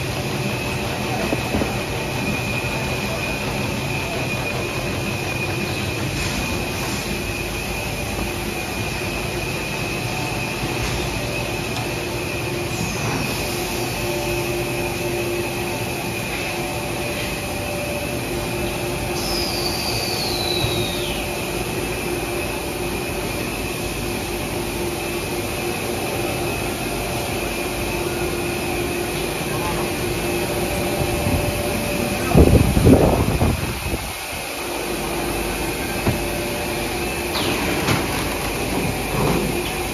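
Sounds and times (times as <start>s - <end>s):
high machine whine: 0.0s - 39.9s
low machine hum: 0.0s - 39.9s
machines running with mechanical din: 0.0s - 39.9s.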